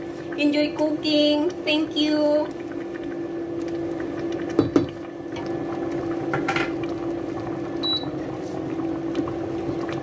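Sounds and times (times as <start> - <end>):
soup bubbling: 0.0 - 10.0.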